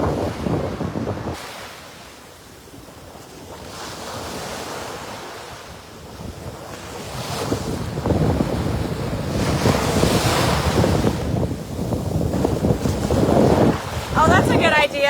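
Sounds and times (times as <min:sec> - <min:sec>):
wind buffeting microphone: 0:00.0 - 0:01.7, 0:02.6 - 0:15.0
ocean waves washing onto beach: 0:00.0 - 0:15.0.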